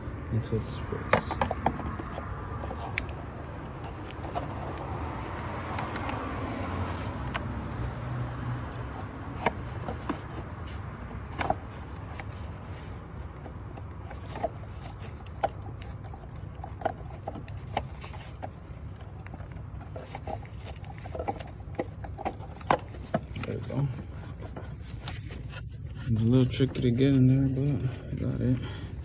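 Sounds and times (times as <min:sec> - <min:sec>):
oil filter housing clicks and scrapes: 0:01.1 - 0:29.0.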